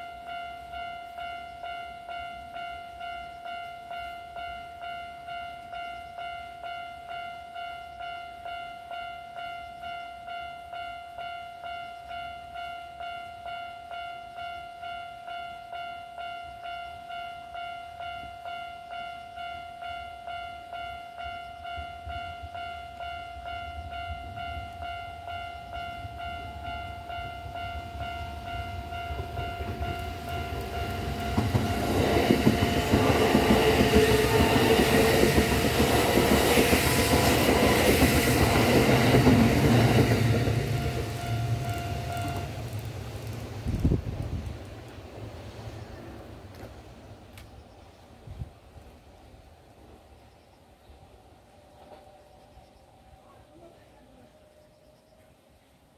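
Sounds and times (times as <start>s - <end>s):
level-crossing warning bell ringing: 0.0s - 43.2s, 50.9s - 55.6s
electric train passing: 0.0s - 55.9s.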